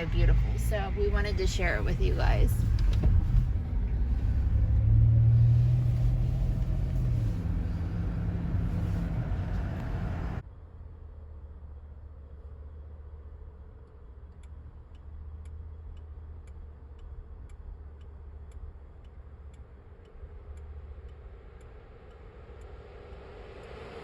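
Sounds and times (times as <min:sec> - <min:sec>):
turn signal clicking: 0:00.0 - 0:10.2, 0:12.4 - 0:24.0
car engine rumble: 0:00.0 - 0:24.0
road noise: 0:00.0 - 0:24.0.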